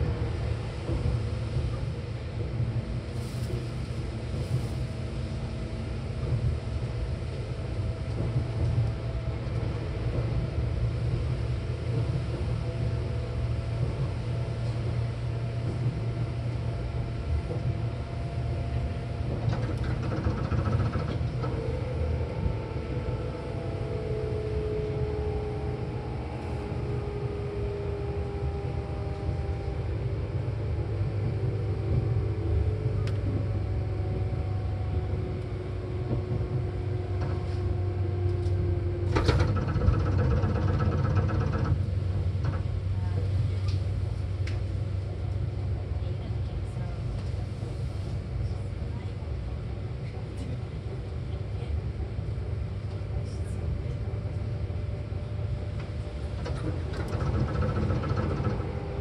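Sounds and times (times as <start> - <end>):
train interior rumble: 0.0 - 59.0.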